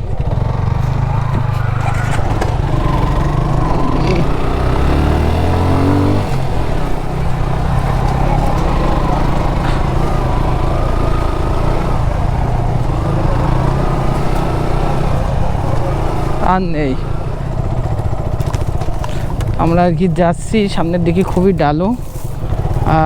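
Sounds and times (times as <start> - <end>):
motorcycle engine revving: 0.0 - 23.0
motorcycle engines labouring: 0.0 - 23.0.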